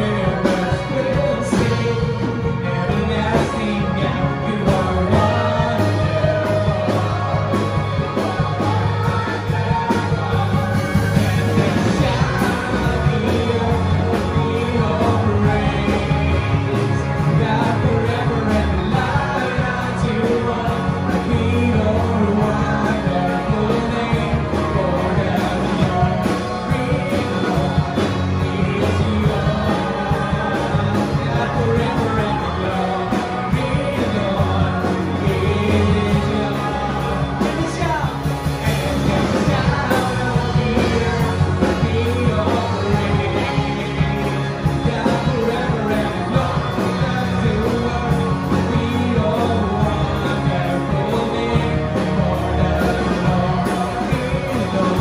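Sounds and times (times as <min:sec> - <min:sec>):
rock band with singing: 0:00.0 - 0:55.0.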